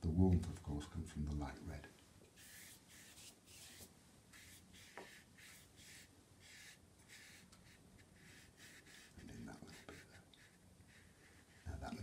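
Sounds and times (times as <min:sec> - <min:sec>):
brush stroking paper: 0:02.4 - 0:12.0.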